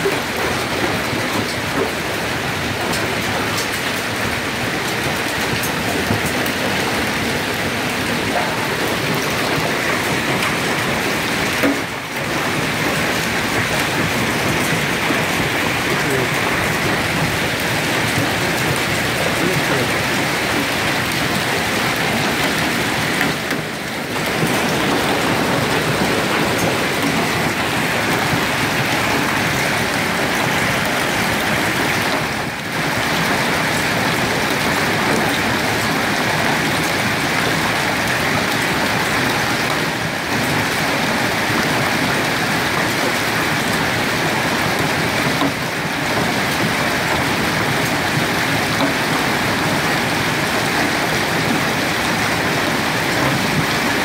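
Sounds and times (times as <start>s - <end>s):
hail pelting on cars: 0.0s - 54.0s.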